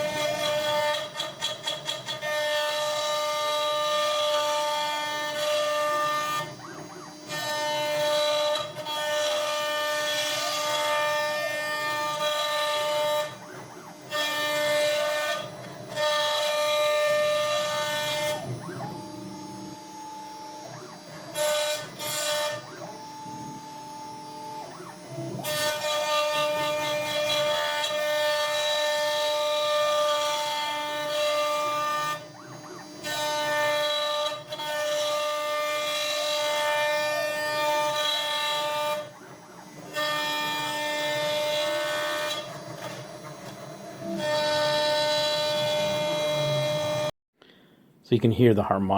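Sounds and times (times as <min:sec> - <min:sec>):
router spindle whining: 0:00.0 - 0:47.1.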